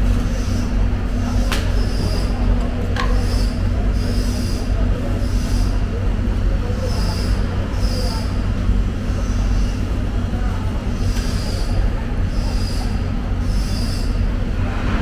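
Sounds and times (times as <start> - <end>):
faint background voices: 0.0 - 15.0
low mechanical hum: 0.0 - 15.0.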